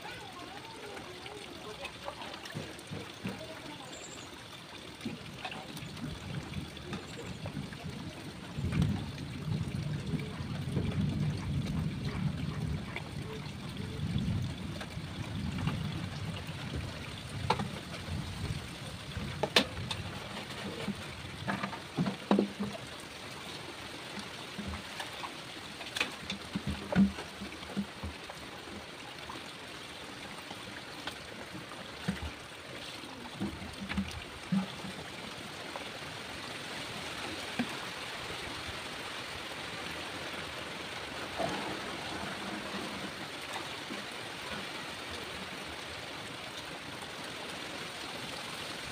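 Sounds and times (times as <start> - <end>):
water running into basin: 0.0 - 38.8, 40.3 - 46.6
dipper splashing and knocking: 0.1 - 29.0, 30.2 - 36.0, 40.1 - 46.2.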